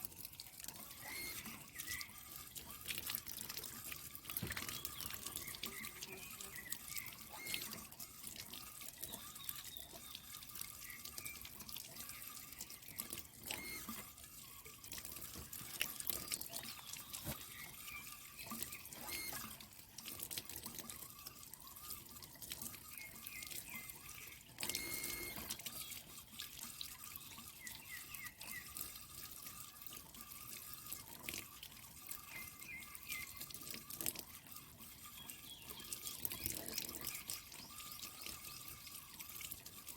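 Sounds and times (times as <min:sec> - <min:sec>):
water splashing and dripping: 0:00.0 - 0:39.9.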